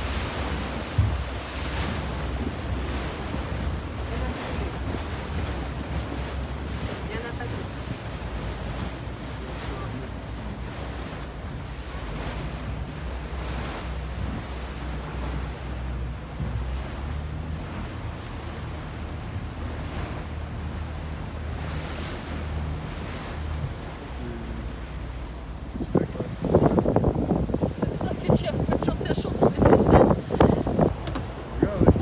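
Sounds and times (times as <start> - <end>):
steady low rumble: 0.0 - 32.0
water rushing past hull: 0.0 - 32.0
wind buffeting microphone: 0.0 - 32.0.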